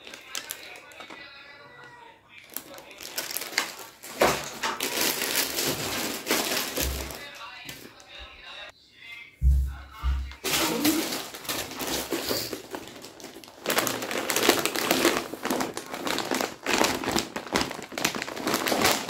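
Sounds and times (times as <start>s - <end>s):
plastic bag crinkling: 0.0s - 7.7s, 10.1s - 19.0s.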